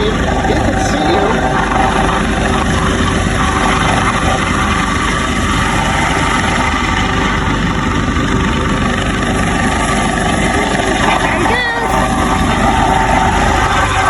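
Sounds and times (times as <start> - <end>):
helicopter hovering: 0.0 - 12.5.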